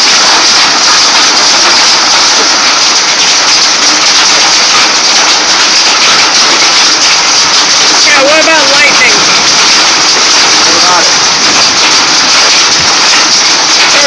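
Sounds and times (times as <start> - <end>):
hail rattling on a roof: 0.0 - 14.0.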